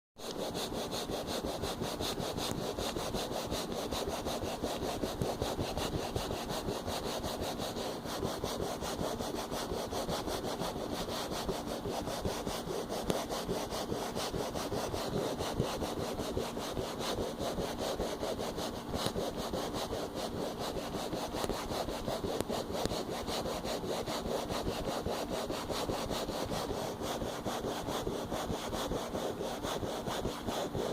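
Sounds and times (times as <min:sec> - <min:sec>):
continuous rapid scraping rub: 0:00.2 - 0:30.9.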